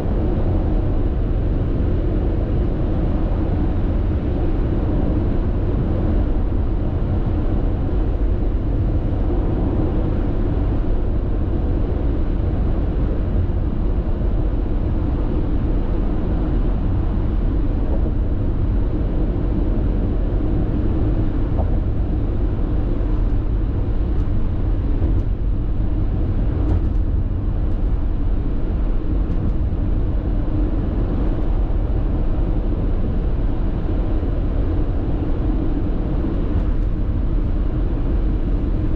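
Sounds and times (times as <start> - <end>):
tyre and road noise in car: 0.1 - 38.9.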